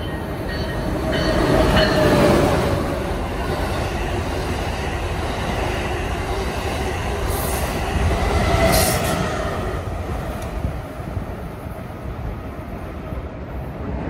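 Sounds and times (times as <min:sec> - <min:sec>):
train rolling on rails: 0:00.0 - 0:14.0.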